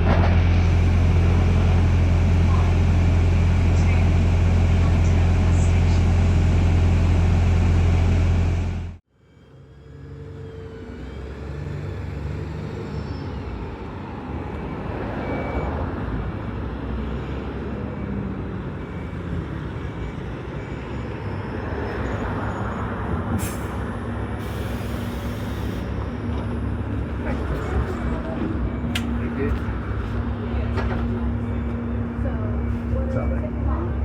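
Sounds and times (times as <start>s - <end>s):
bus engine drone: 0.0s - 34.0s.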